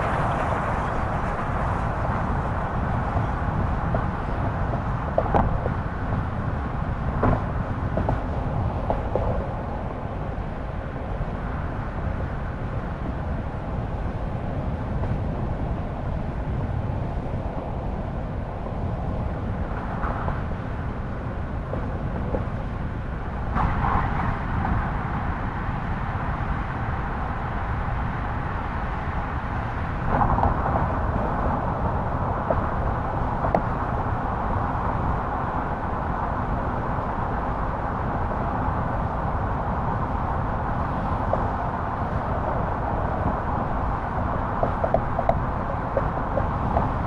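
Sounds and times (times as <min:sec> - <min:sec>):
car driving road rumble: 0:00.0 - 0:47.0.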